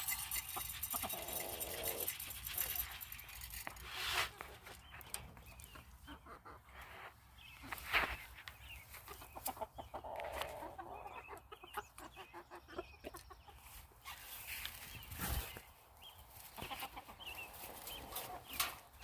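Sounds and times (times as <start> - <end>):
chicken clucking: 0.0 - 15.7, 16.4 - 19.0.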